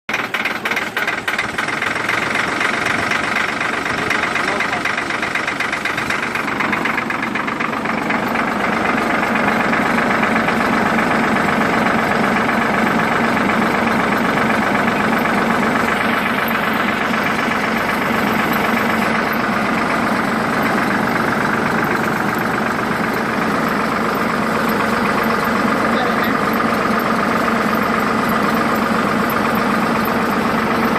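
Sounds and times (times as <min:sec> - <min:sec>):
engine idling: 0:00.1 - 0:30.9.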